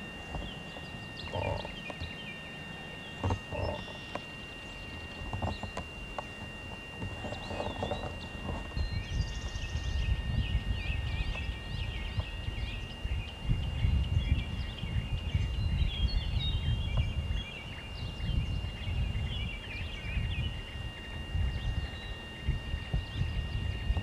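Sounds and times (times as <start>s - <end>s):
small birds chirping: 0.0s - 24.0s
wind rumble on microphone: 0.0s - 24.0s.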